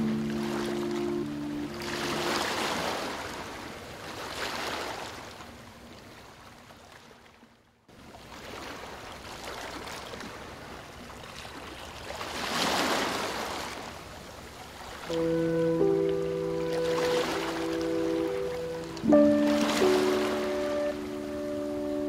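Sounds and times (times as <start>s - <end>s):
ocean surf waves: 0.0s - 5.4s, 8.1s - 22.0s.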